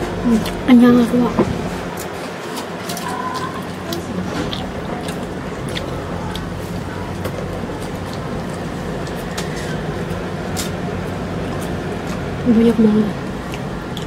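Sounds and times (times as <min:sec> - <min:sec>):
low mechanical hum and rumble: 0:00.0 - 0:14.0.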